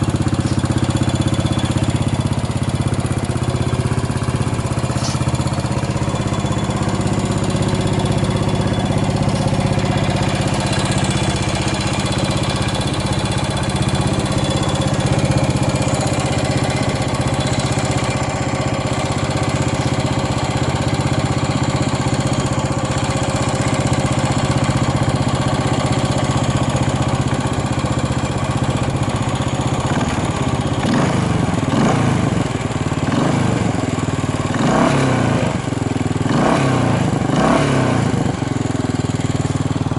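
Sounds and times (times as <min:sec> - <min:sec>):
engine revving: 0:00.0 - 0:26.7, 0:29.8 - 0:38.9
motorcycle engine idling: 0:00.0 - 0:39.9.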